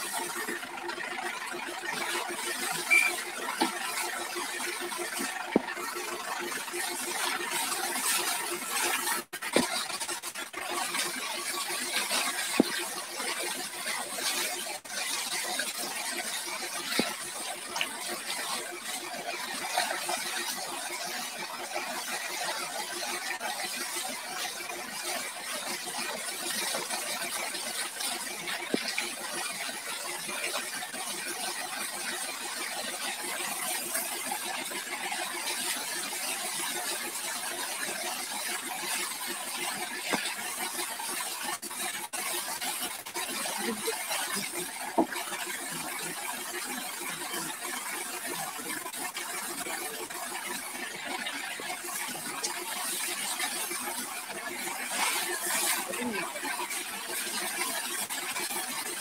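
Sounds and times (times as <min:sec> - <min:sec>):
hose water jet spraying: 0:01.9 - 0:21.2, 0:22.0 - 0:59.0.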